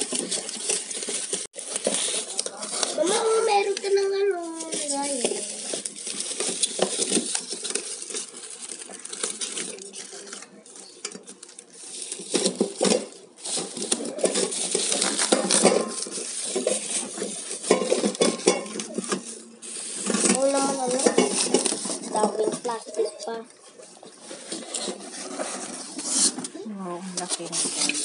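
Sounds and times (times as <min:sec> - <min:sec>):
metal pot clinking and scraping: 0:00.0 - 0:03.9, 0:04.5 - 0:28.0
plastic wrapping rustling: 0:00.0 - 0:28.0.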